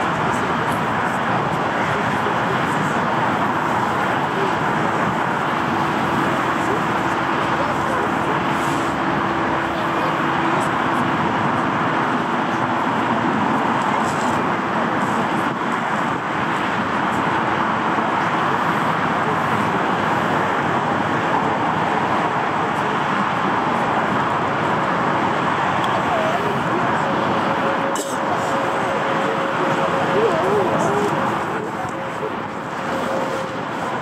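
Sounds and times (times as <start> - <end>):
jet engines taxiing: 0.0 - 34.0.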